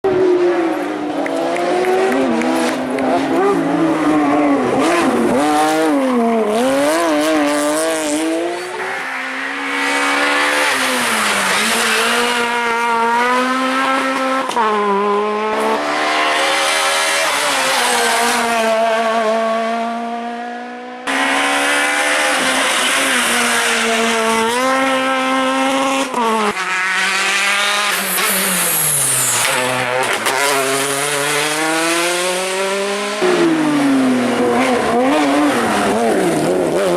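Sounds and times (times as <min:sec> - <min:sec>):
rally car engines revving: 0:00.0 - 0:36.9.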